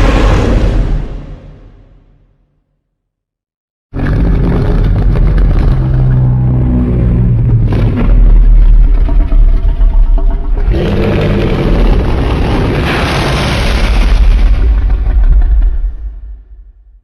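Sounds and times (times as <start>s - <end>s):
monster rumbling sound effect: 0.0s - 2.2s, 4.0s - 16.8s.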